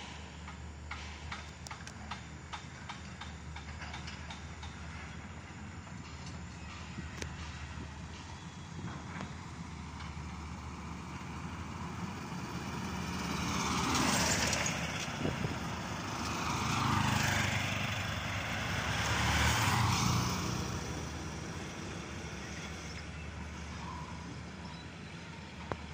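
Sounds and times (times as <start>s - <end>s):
vehicles passing close by: 0.0s - 25.9s.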